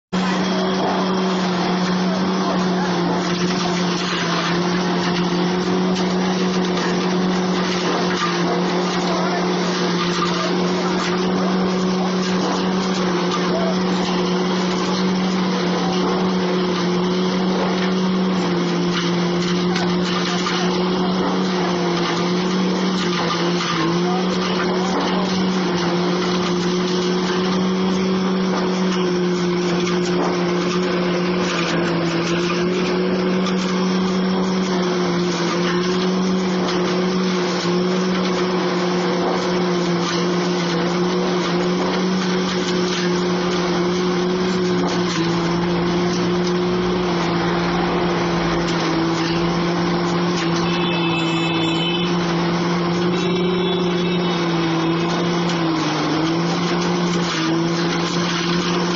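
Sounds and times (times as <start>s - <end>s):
corn threshing machine hum: 0.0s - 58.9s.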